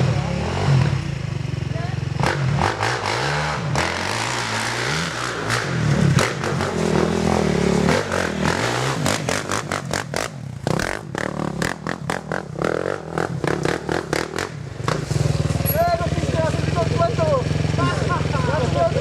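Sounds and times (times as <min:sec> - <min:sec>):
quad engine revving: 0:00.0 - 0:19.0.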